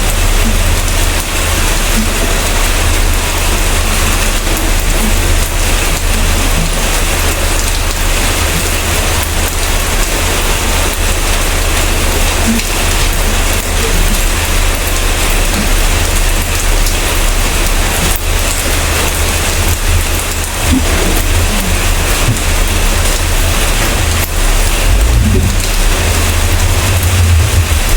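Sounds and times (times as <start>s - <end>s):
low rumble: 0.0s - 27.9s
steady rain hiss: 0.0s - 27.9s.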